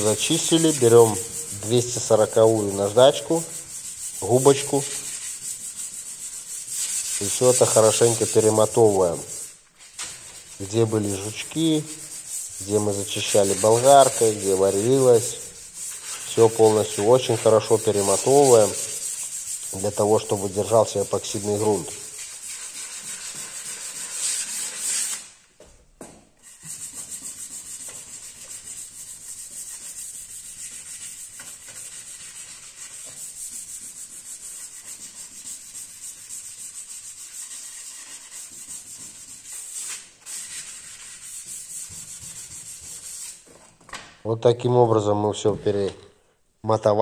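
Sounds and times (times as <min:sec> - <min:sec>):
sanding sponge scrubbing metal: 0:00.0 - 0:09.6, 0:10.2 - 0:25.3, 0:26.4 - 0:43.4.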